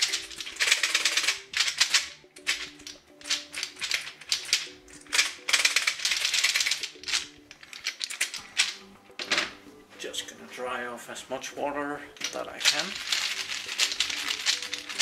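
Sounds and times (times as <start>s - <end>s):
plastic keycaps rattling: 0.0s - 9.3s, 12.2s - 15.0s.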